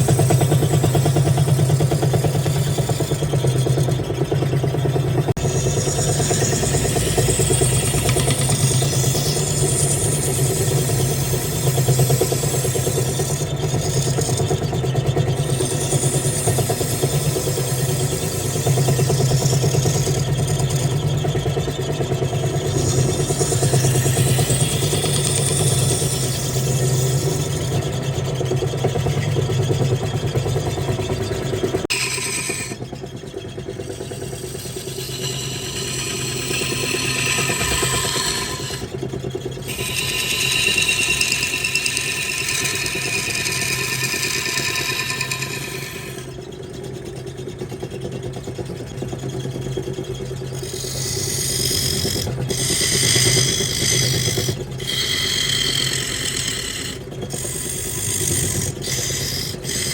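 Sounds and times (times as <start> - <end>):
turning tool cutting wood: 0.0 - 59.9
wood lathe motor hum: 0.0 - 59.9.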